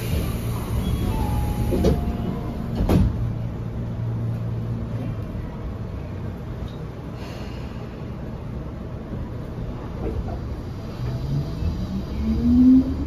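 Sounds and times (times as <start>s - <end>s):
train car interior hum: 0.0s - 13.0s.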